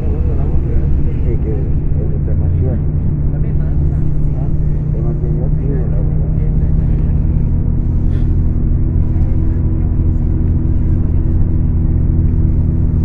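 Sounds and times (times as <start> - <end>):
bus diesel engine running: 0.0 - 13.0
low rumble of bus on road: 0.0 - 13.0.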